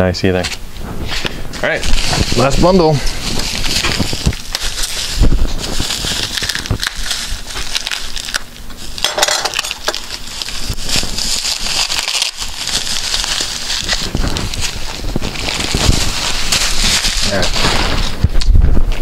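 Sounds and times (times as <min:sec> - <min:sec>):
bubble wrap crackling: 0:00.2 - 0:19.0.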